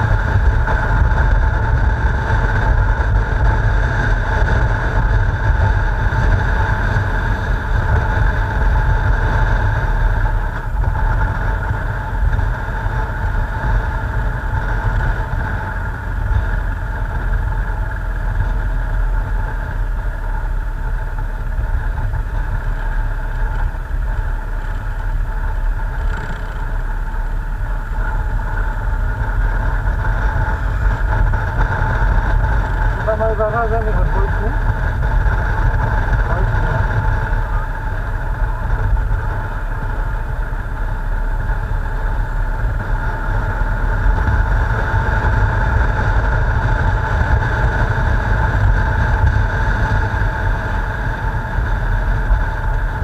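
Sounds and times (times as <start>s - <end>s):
motorcycle engine running: 0.0s - 53.0s
wind rumble on microphone: 0.0s - 53.0s.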